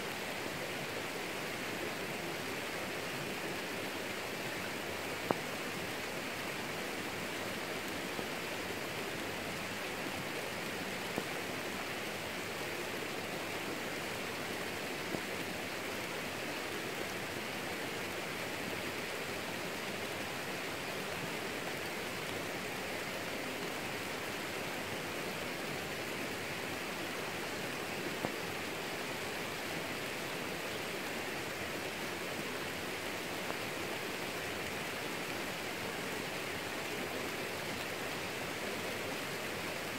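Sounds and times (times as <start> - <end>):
rain on plants: 0.1 - 39.9.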